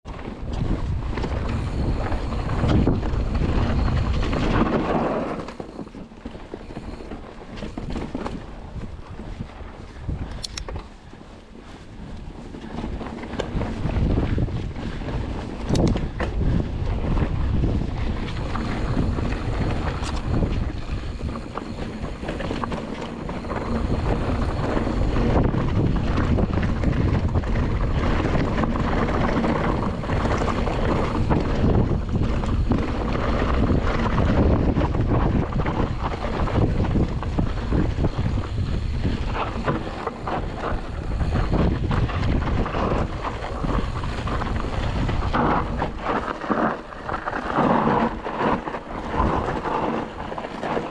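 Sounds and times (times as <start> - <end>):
wind buffeting microphone: 0.0 - 50.9
bike knocks and rattles: 0.1 - 50.9
tyres on dirt and rock: 0.1 - 50.9.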